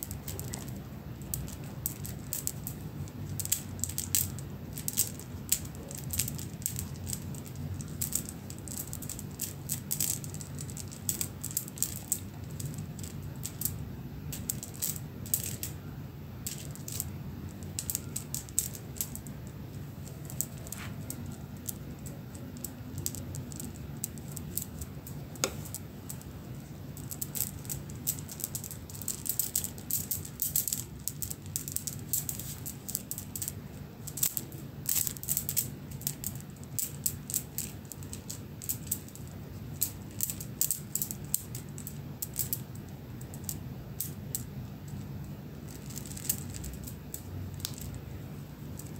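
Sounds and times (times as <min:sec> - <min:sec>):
wooden beads clicking and rattling: 0:00.0 - 0:48.9.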